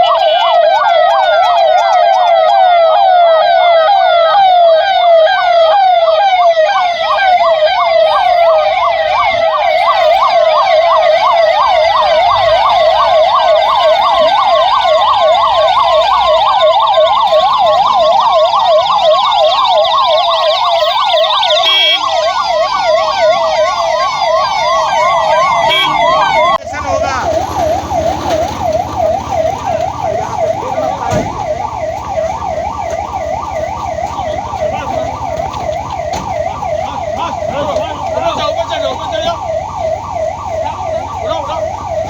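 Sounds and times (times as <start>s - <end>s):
emergency sirens yelping: 0.0s - 42.0s.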